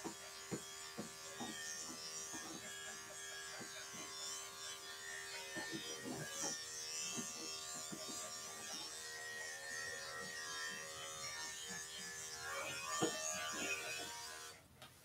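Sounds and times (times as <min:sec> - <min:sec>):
electric pet clippers buzzing: 0:00.0 - 0:14.6.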